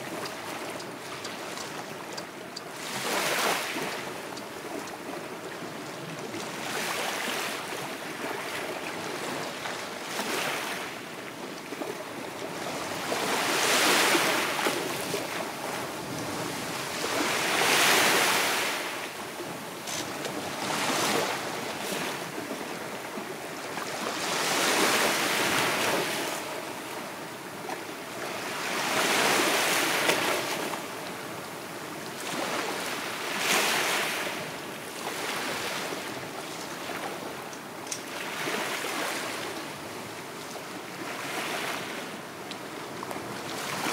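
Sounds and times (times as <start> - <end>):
small waves breaking on shore: 0.0 - 43.9.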